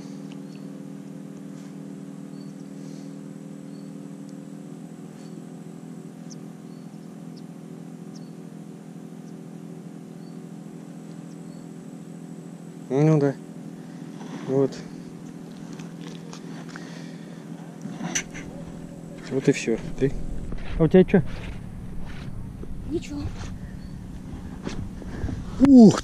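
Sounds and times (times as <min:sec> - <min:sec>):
steady motor drone: 0:00.0 - 0:26.0.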